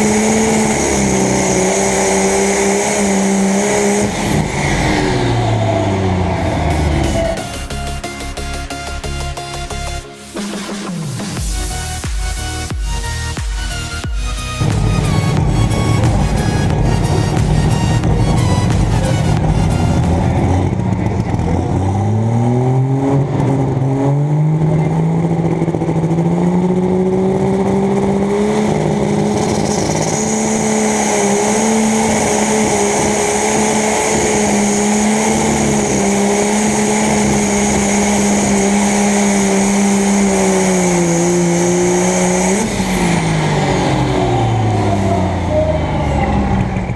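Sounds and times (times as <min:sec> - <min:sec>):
diesel engine under full load: 0:00.0 - 0:46.9
high whine: 0:00.0 - 0:46.9.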